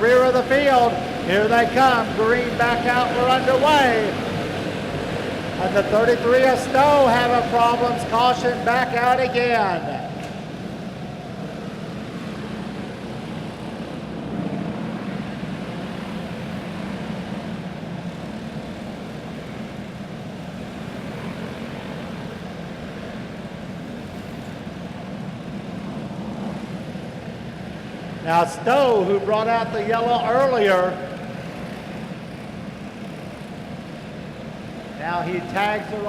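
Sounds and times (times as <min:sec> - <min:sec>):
racing kart engines droning: 0:00.0 - 0:36.0.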